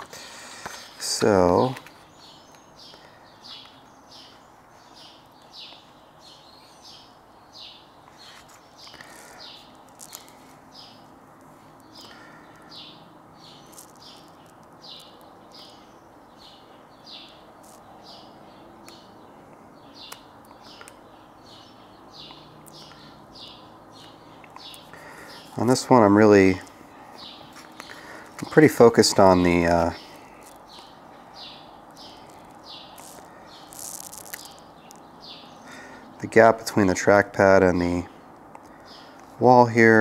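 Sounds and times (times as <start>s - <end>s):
bird chirping: 0.0s - 40.0s.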